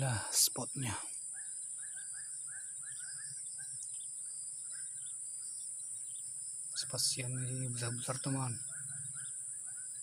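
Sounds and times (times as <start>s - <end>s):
insects droning: 0.0s - 10.0s
short chirping calls: 0.0s - 10.0s.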